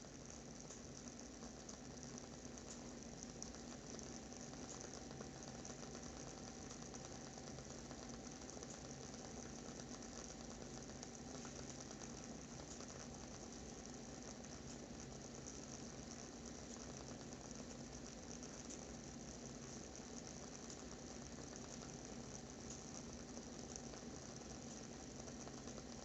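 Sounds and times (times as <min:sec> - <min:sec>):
faint hum: 0:00.0 - 0:26.0
candle wick crackling: 0:00.2 - 0:26.0.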